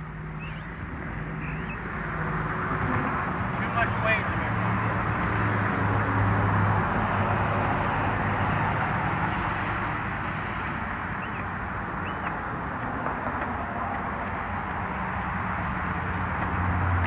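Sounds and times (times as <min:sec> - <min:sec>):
skateboard wheels rolling on pavement: 0:00.4 - 0:17.0.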